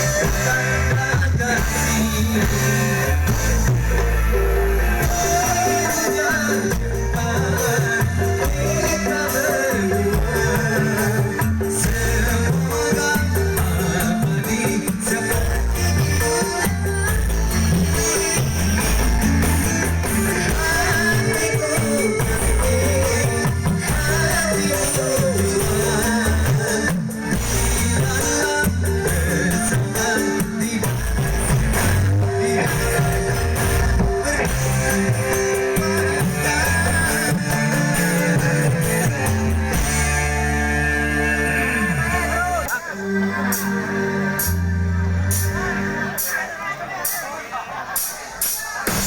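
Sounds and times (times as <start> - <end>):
guitar: 0.0 - 46.5
bass line: 0.0 - 46.6
live band playing: 0.0 - 49.0.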